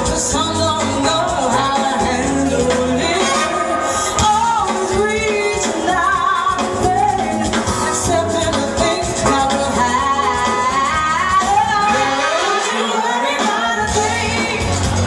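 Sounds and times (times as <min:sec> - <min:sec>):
live soul band playing: 0:00.0 - 0:15.0
woman singing: 0:00.0 - 0:15.0.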